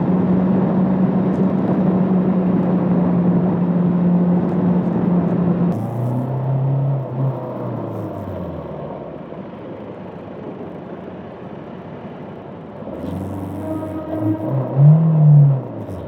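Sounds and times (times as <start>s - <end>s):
motorcycle engine rumbling: 0.0s - 9.9s, 12.9s - 16.0s.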